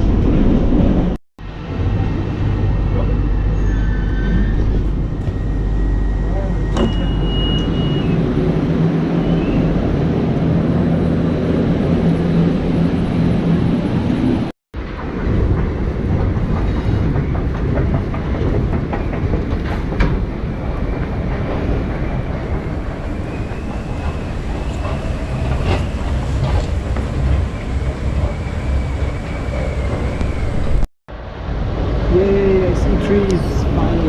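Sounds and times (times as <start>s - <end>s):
metro train rumbling: 0.0s - 34.0s.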